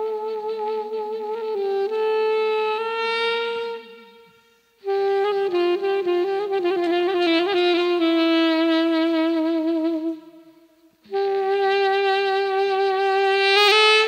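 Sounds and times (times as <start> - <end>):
solo saxophone melody: 0.0 - 14.0.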